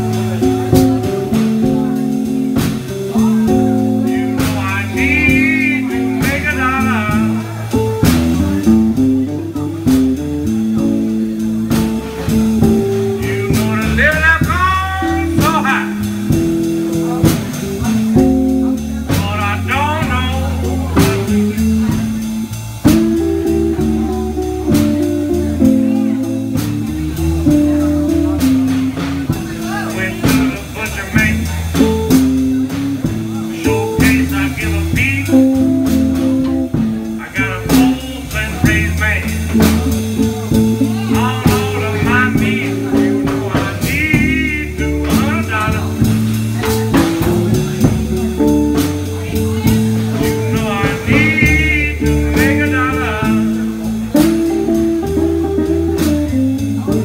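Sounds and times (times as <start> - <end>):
drum and cymbal hits: 0.0 - 57.0
live blues band playing: 0.0 - 57.0
wavering guitar line: 0.0 - 57.0.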